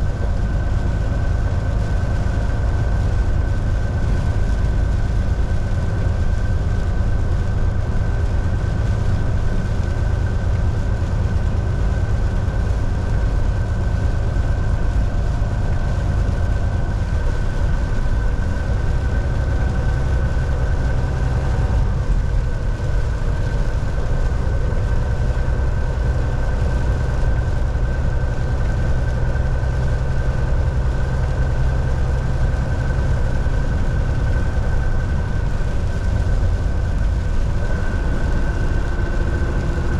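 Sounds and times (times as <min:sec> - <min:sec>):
road and tyre noise: 0:00.0 - 0:39.9
thin steady whine: 0:00.0 - 0:39.9
truck engine drone: 0:00.0 - 0:39.9.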